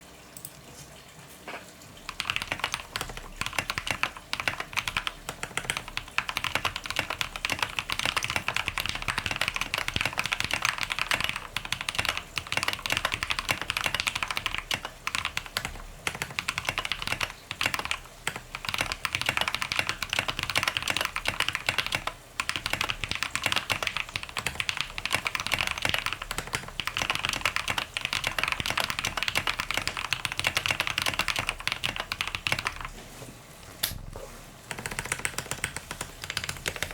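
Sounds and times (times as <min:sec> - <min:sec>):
mechanical keyboard typing: 0:02.0 - 0:32.9, 0:34.7 - 0:36.9.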